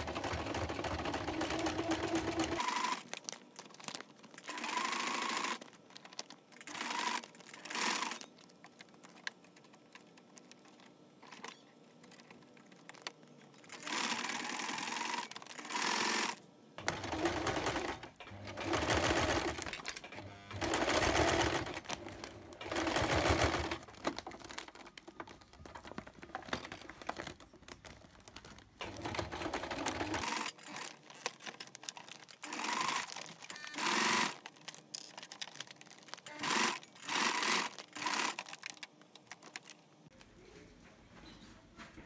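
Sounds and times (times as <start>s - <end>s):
sewing machine stitching plastic: 0.0s - 39.8s.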